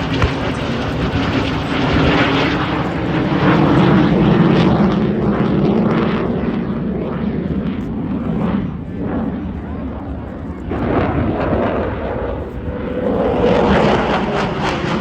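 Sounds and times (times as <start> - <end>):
jet aircraft engine roar: 0.0 - 15.0.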